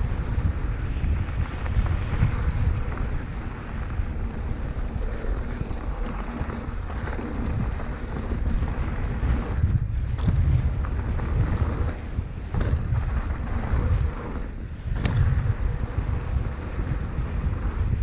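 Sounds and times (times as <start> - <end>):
bike rattling over bumps: 0.0 - 18.0
bike tyres rumbling on dirt: 0.0 - 18.0
wind buffeting microphone: 0.0 - 18.0.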